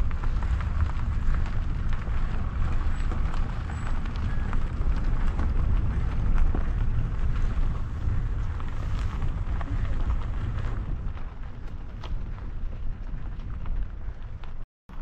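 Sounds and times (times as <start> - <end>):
footsteps on stony path: 0.0 - 14.6
wind buffeting microphone: 0.0 - 14.6.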